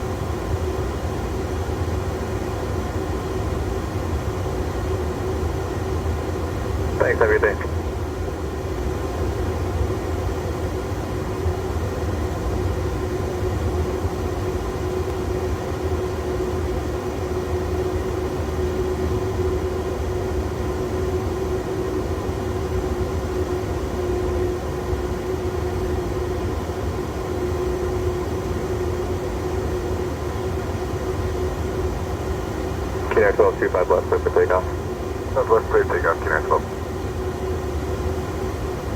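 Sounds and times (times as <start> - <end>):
aircraft engines idling hum: 0.0 - 38.9.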